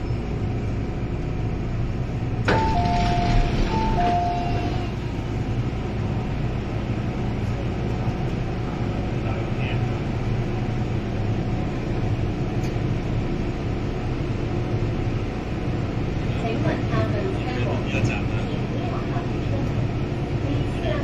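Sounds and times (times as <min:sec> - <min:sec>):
train car hum and rumble: 0:00.0 - 0:21.0.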